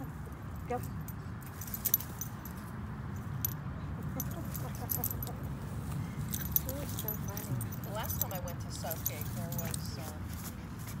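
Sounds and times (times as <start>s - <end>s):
dog tags jingling: 0.7s - 5.6s, 6.2s - 10.2s.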